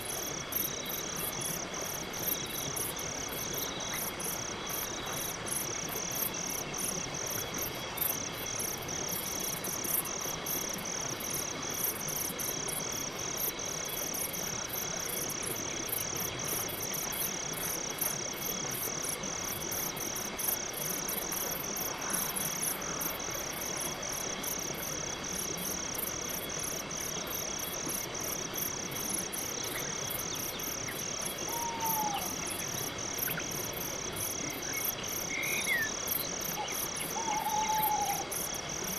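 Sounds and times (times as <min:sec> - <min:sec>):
crickets chirping: 0:00.0 - 0:38.9
faint background hiss: 0:00.0 - 0:38.9.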